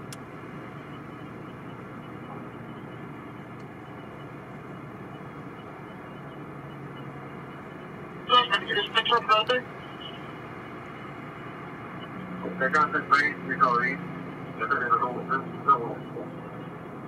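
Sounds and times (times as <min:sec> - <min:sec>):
distant traffic rumble: 0:00.0 - 0:17.0.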